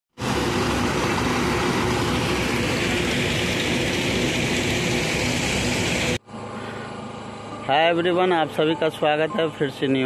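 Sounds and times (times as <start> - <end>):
heavy machinery running: 0.2 - 9.3.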